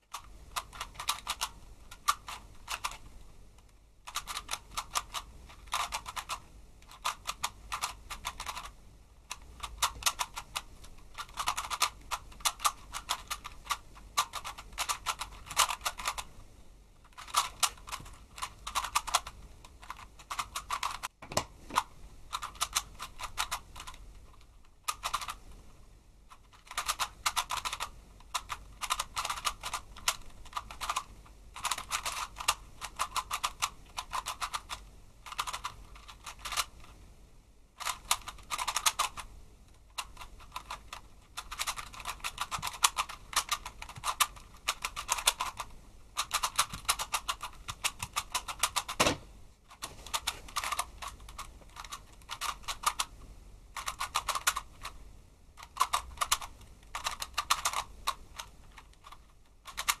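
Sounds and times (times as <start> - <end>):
puzzle cube plastic clicking: 0.1 - 16.3, 17.0 - 25.5, 26.3 - 36.9, 37.8 - 55.0, 55.6 - 60.0.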